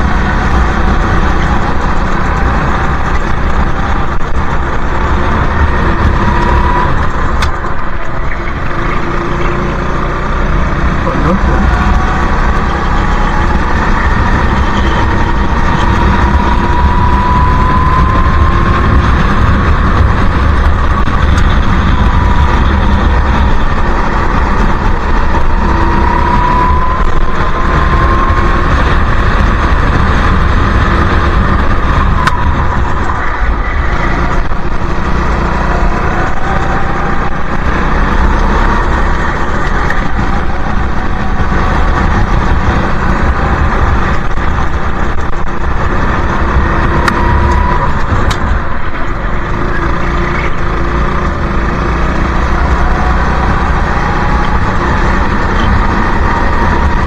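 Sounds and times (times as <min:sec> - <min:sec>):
go-kart engine revving: 0:00.0 - 0:57.0
heavy low rumble: 0:00.0 - 0:57.0.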